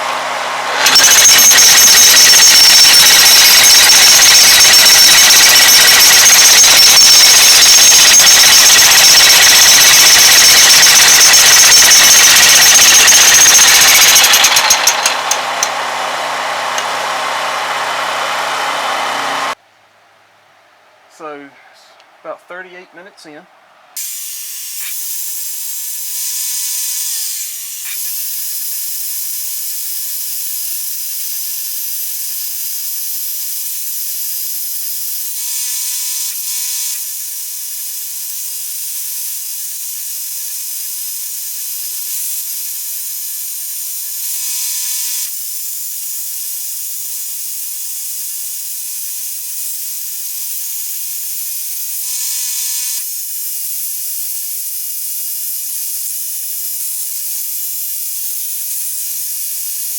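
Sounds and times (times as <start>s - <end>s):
power tool running: 0.0s - 19.6s, 24.0s - 59.9s.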